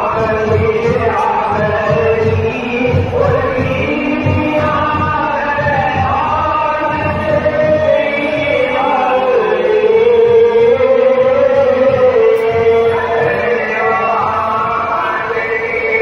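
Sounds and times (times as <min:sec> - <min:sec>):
men chanting devotional recitation: 0:00.0 - 0:16.0.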